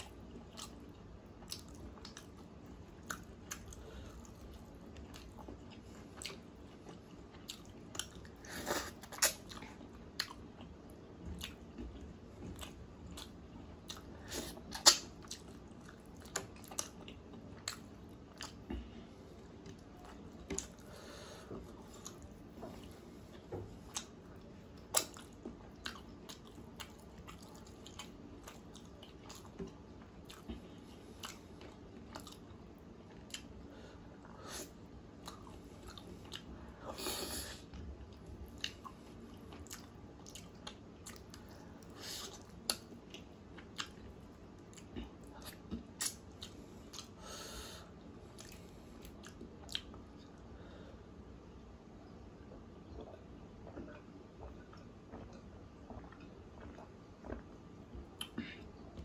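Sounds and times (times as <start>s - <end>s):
person chewing food: 0.0s - 50.5s, 52.9s - 59.0s.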